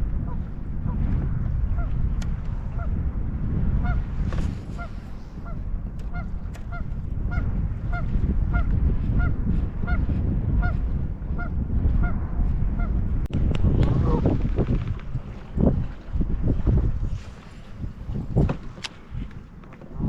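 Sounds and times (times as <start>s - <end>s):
low rumble: 0.0s - 18.5s.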